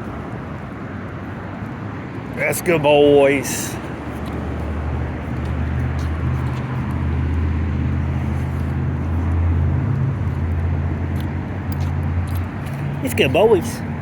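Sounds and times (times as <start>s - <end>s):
traffic noise: 0.0s - 14.0s
vehicle engine humming: 0.0s - 14.0s.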